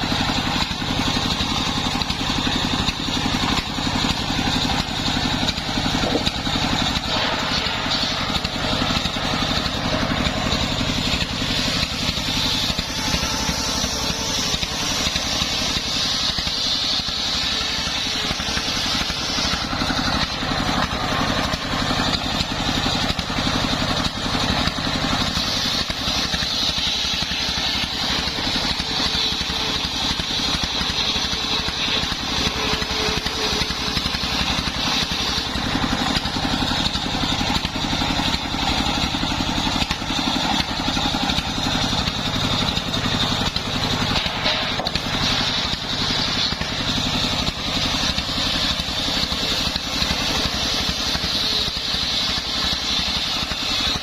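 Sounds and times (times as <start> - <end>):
engine running under load: 0.0 - 54.0
saw blade whining through wood: 0.0 - 54.0.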